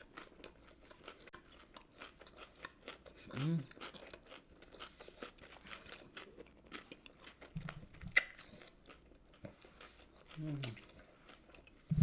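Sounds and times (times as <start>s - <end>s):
chewing crunchy food: 0.0s - 12.0s.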